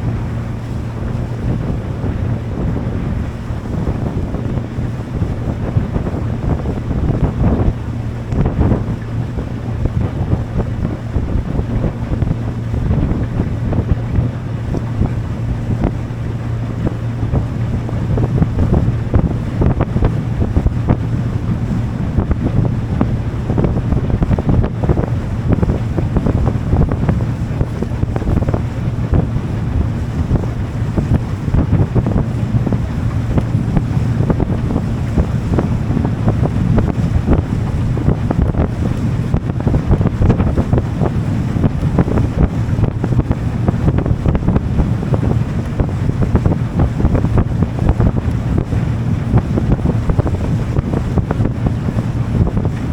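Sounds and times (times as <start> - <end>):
motorboat engine humming: 0.0 - 52.9
water rushing past hull: 0.0 - 52.9
wind buffeting microphone: 0.0 - 52.9.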